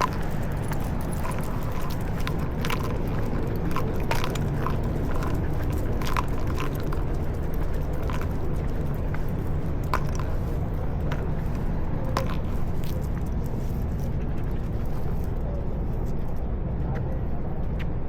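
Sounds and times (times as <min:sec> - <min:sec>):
dog claws clicking: 0:00.0 - 0:15.4
footsteps on pavement: 0:00.0 - 0:16.2
steady low rumble: 0:00.0 - 0:18.0.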